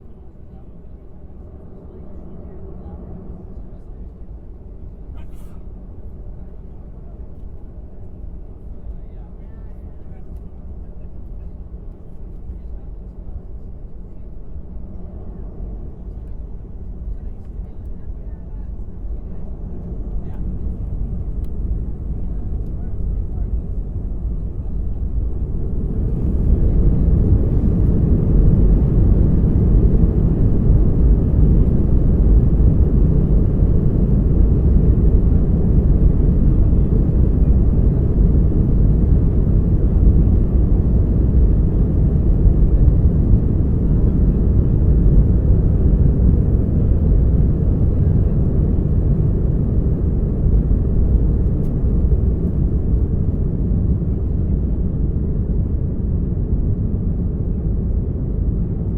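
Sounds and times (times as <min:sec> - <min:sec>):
aircraft engine rumble: 0:00.0 - 0:58.9.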